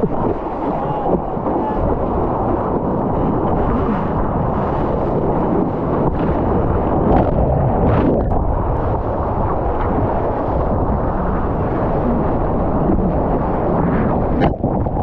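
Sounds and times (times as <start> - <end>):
water rushing and splashing: 0.0 - 15.0
whitewater splashing: 0.0 - 15.0
wind buffeting microphone: 0.0 - 15.0.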